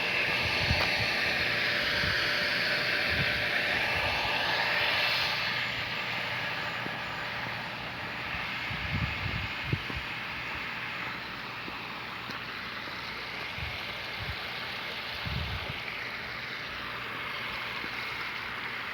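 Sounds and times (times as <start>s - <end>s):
water pump motor running: 0.0s - 18.9s.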